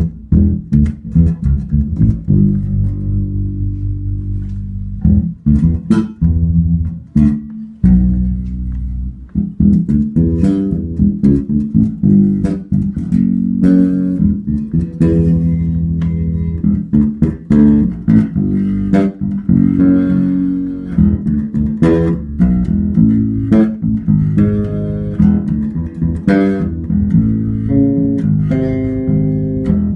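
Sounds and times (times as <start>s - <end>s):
electric bass guitar plucked: 0.0s - 29.9s.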